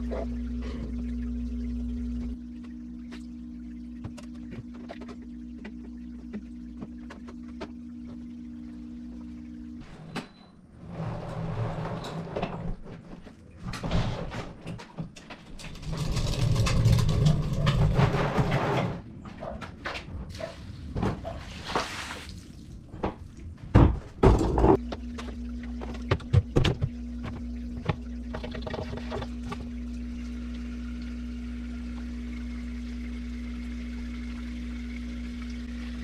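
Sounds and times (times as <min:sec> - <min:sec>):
steady low hum: 0:00.0 - 0:21.8, 0:22.4 - 0:36.0.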